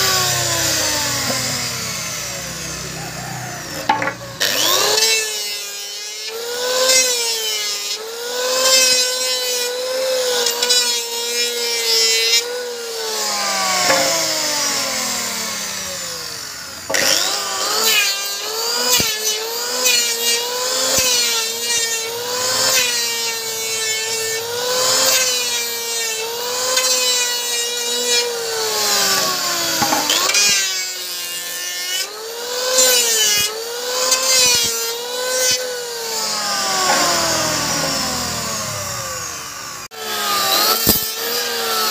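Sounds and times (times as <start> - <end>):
electric planer on wood: 0.0 - 41.9.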